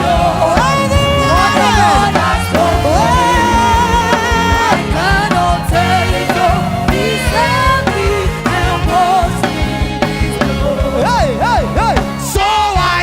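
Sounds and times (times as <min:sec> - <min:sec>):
band with drums: 0:00.0 - 0:13.0
gospel singing: 0:00.0 - 0:13.0.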